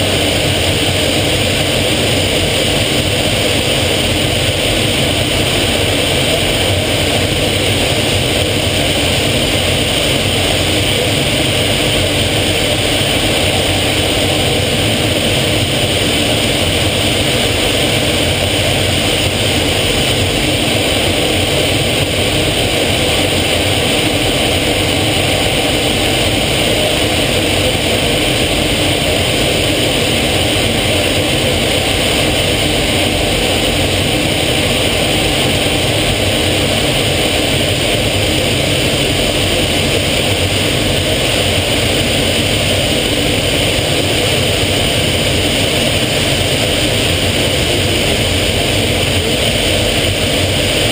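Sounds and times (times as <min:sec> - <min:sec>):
jet engine in cockpit: 0:00.0 - 0:50.9.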